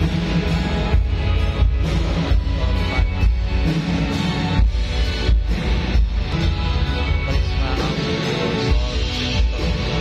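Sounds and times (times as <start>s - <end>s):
loud band music through speakers: 0.0s - 10.0s.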